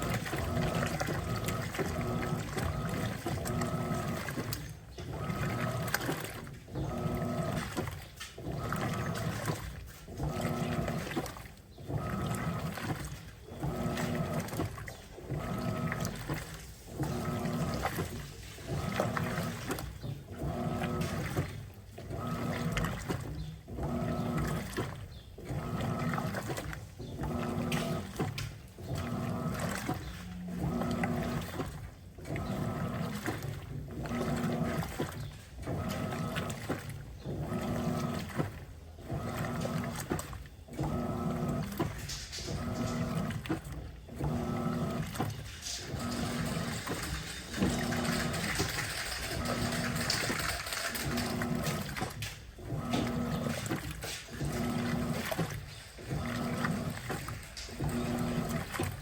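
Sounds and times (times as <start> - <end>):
washing machine motor hum: 0.0 - 59.0
water swishing in washer: 0.0 - 59.0.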